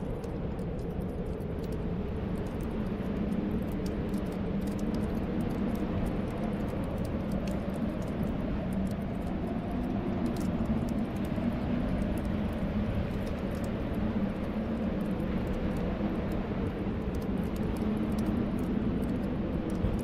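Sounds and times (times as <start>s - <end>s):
snowstorm wind: 0.0s - 20.0s
wood fire crackling: 0.0s - 20.0s.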